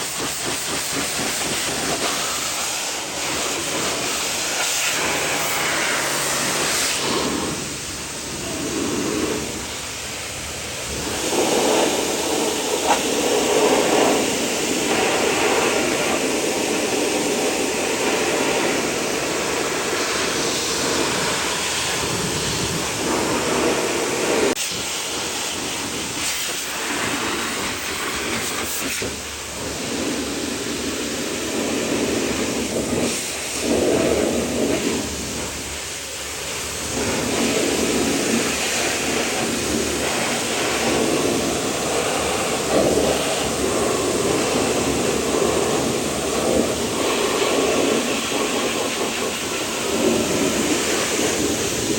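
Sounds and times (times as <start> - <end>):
pressure washer spraying water: 0.0 - 51.9.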